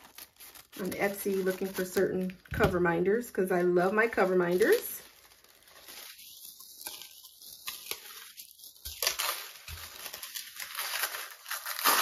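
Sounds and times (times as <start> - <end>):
tape tearing: 0.0 - 2.5, 3.8 - 12.0
paper wrapping crinkling: 0.0 - 12.0.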